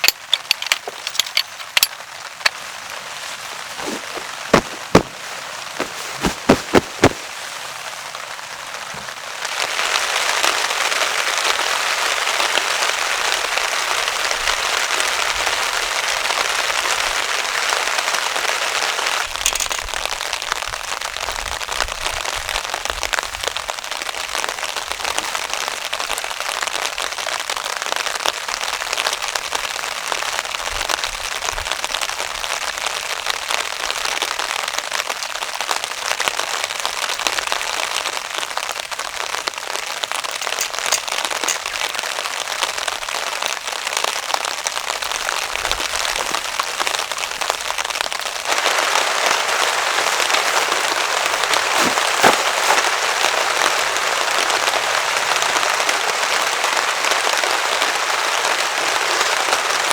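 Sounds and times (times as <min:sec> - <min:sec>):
rain pattering on a tarp: 0:00.0 - 0:59.9.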